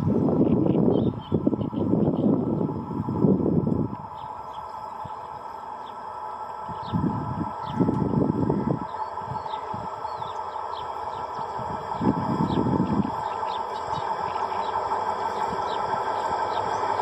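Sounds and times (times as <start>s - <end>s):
wind buffeting microphone: 0.0s - 5.6s, 6.6s - 17.0s
steady hum: 0.0s - 17.0s
small birds chirping: 0.4s - 2.8s, 4.0s - 6.1s, 6.7s - 8.0s, 8.8s - 17.0s.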